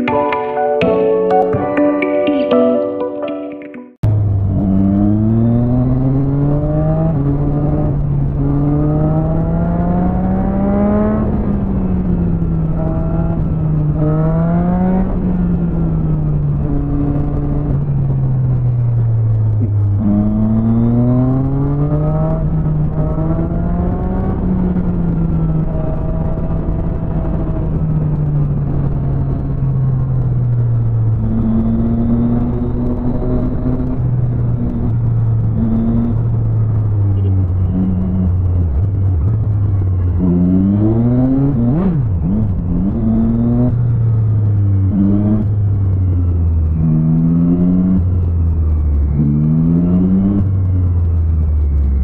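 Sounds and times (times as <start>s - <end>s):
motorcycle engine accelerating: 4.0s - 52.0s.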